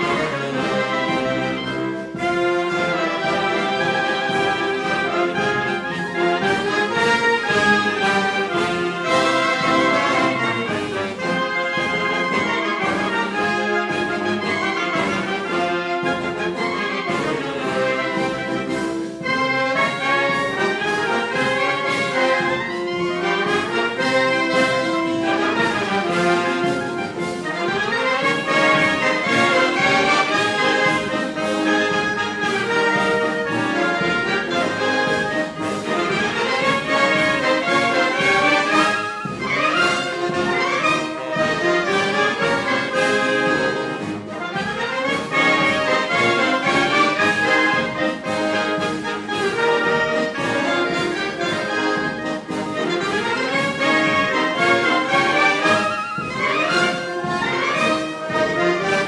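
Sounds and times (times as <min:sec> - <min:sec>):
orchestral music with brass: 0:00.0 - 0:59.0.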